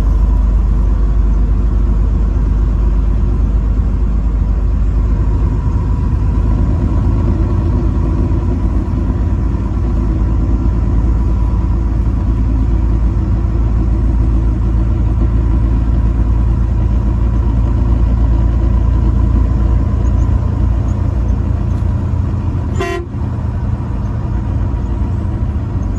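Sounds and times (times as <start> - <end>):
truck engine and road rumble: 0.0 - 25.9.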